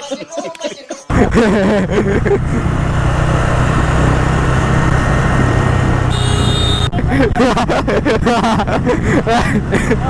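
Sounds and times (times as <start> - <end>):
motorcycle engine running: 1.1 - 10.0
wind and road noise: 1.1 - 10.0.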